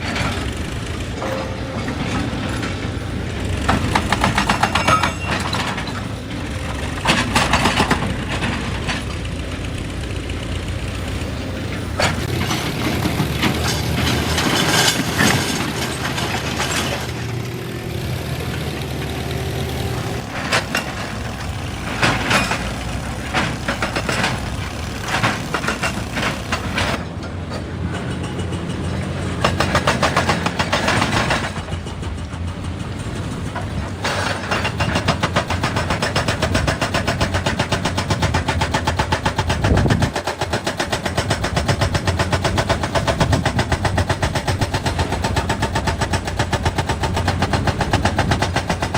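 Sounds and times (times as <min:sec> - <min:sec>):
excavator diesel engine running: 0:00.0 - 0:48.9
hydraulic rock breaker hammering: 0:00.0 - 0:48.9.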